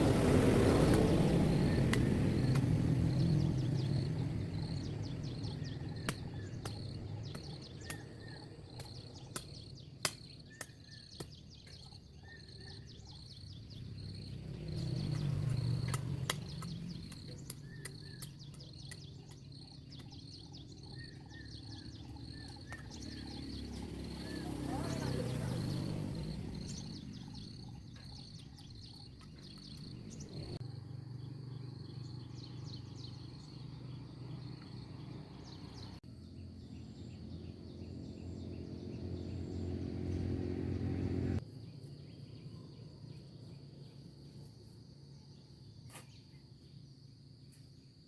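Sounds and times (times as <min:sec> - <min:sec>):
small birds chirping: 0:00.7 - 0:48.0
insects: 0:00.8 - 0:40.6, 0:41.4 - 0:48.0.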